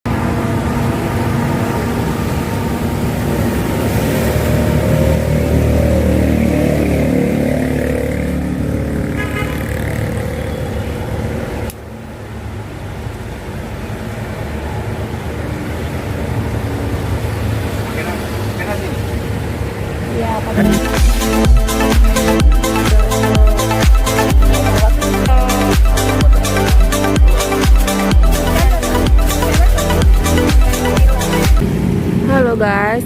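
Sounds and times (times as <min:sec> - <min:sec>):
vehicle engines running: 0:00.1 - 0:33.0.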